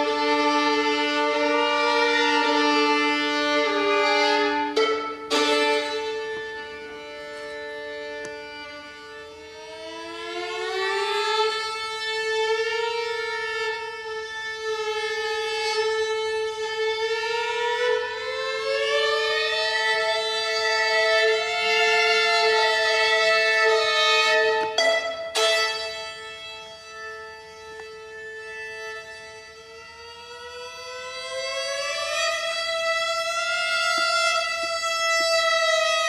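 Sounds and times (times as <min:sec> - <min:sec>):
bowed string instrument: 0:00.0 - 0:36.0.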